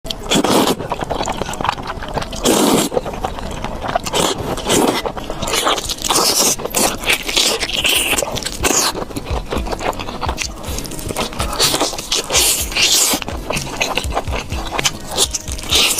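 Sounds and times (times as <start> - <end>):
chewing food: 0.1 - 15.9
mouth clicks: 0.1 - 15.9.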